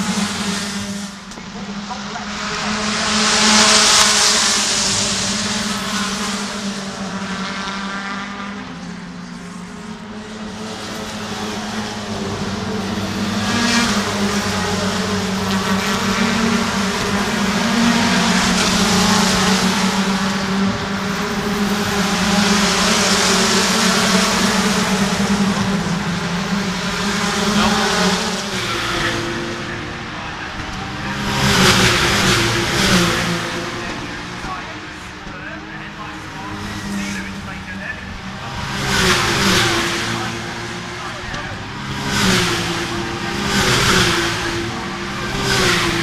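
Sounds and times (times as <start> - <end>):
race cars passing at speed: 0.0 - 46.0.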